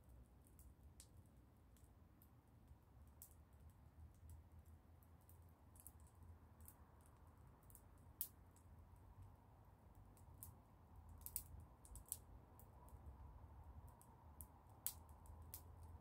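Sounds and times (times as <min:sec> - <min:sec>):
wood fire crackling and snapping: 0:00.0 - 0:16.0.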